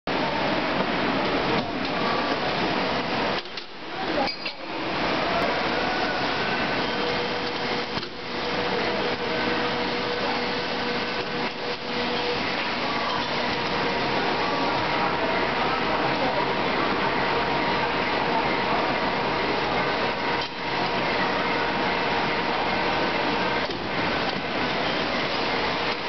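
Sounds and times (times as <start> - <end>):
moulding machine humming and hissing: 0.1 - 26.0.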